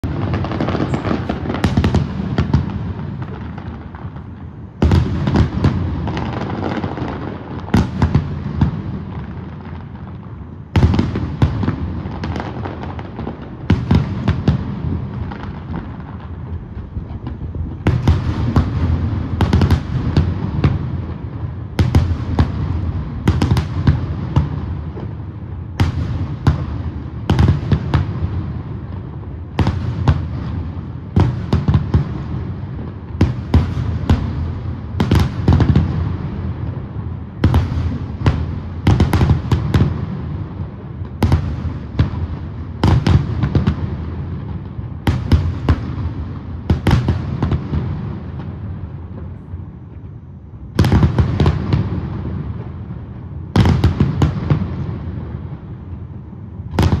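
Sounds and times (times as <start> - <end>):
fireworks bursting with echo: 0.0 - 57.0.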